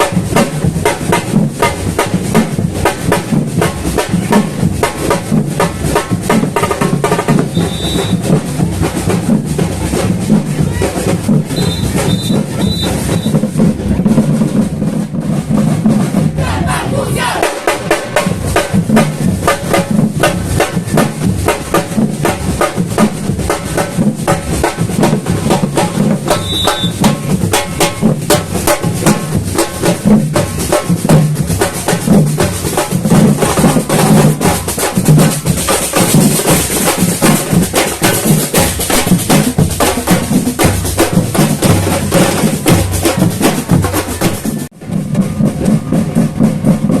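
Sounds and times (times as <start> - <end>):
bass and snare drums: 0.0 - 47.0.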